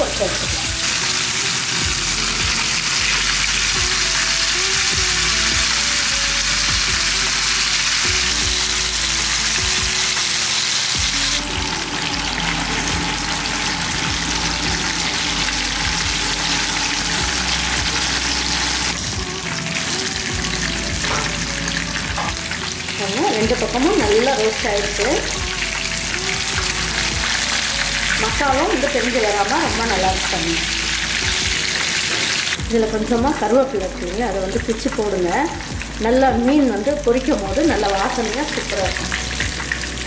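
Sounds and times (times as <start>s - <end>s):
fish frying in hot oil: 0.0s - 40.0s.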